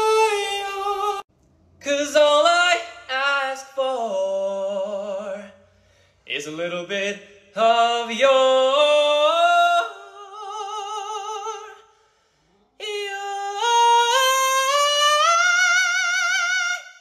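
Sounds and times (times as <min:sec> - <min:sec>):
man singing a cappella: 0:00.0 - 0:12.0, 0:12.8 - 0:17.0.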